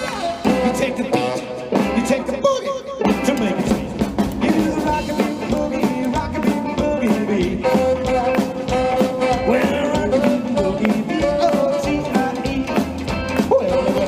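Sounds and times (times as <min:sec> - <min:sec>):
rockabilly band playing: 0:00.0 - 0:14.0.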